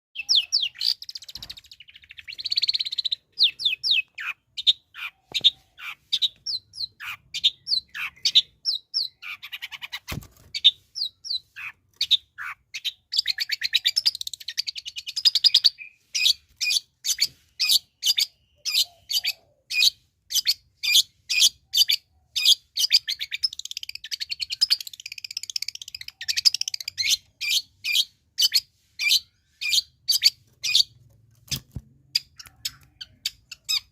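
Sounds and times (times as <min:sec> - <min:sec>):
fast bird chattering: 0:00.2 - 0:31.0.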